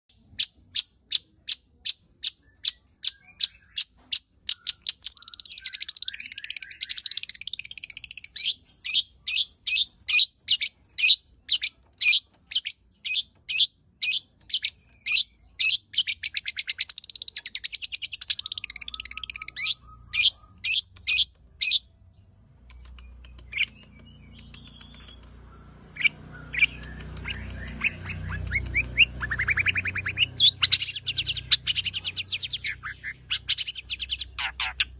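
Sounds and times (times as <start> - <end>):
bird singing sharp chirps: 0.2 - 34.9.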